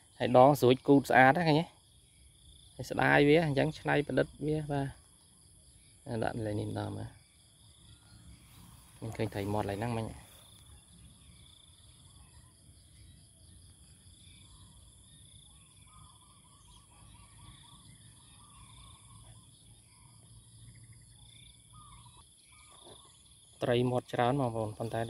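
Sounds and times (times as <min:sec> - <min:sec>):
crickets trilling: 0:00.0 - 0:25.0
soft repeated chirps: 0:00.0 - 0:25.0.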